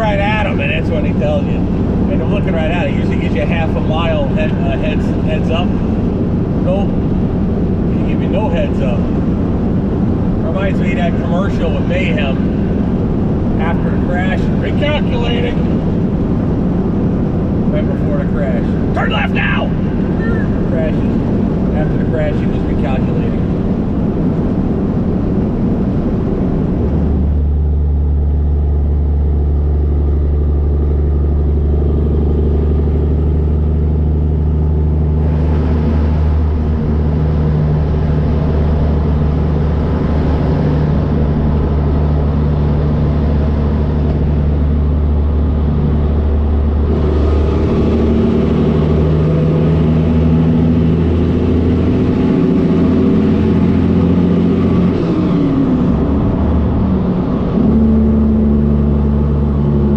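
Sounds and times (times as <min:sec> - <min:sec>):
road and tyre noise: 0:00.0 - 0:59.9
truck diesel engine droning: 0:00.0 - 0:59.9.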